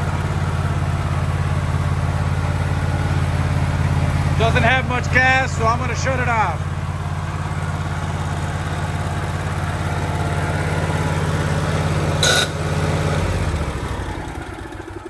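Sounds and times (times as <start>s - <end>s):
engine winding down: 0.0s - 15.0s
generator engine running: 0.0s - 15.0s.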